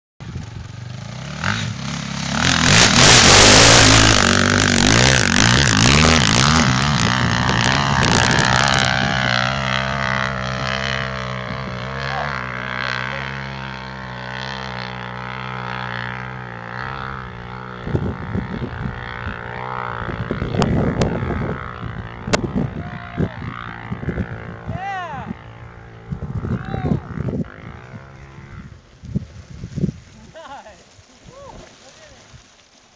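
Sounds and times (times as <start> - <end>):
dirt bike engine revving: 0.2 - 29.0.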